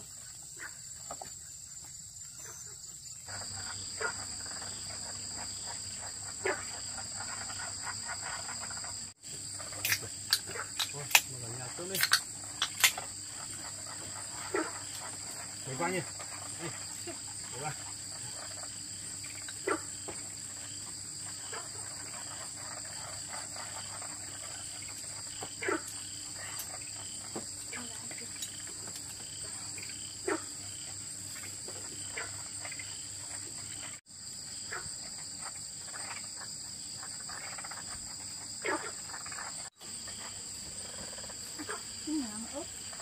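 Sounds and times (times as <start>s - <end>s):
night insects trilling: 0.0s - 43.0s.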